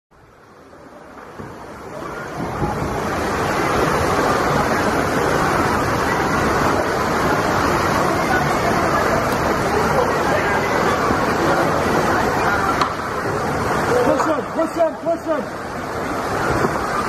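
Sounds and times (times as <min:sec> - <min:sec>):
paddles splashing water: 0:00.3 - 0:17.0.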